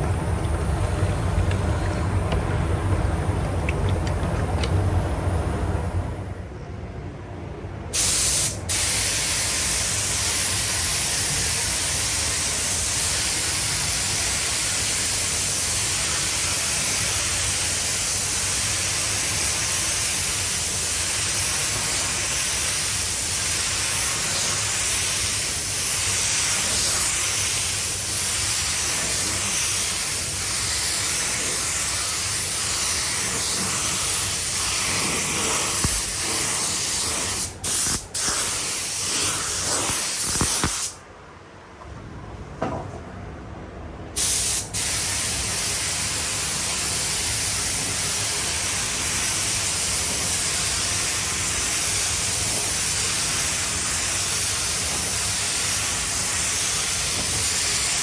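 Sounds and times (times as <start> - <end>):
paint spray gun hissing: 8.0 - 41.0, 44.2 - 58.0.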